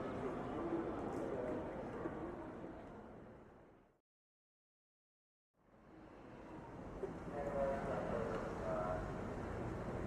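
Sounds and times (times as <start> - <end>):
faint background noise: 0.0 - 4.0, 5.6 - 10.0.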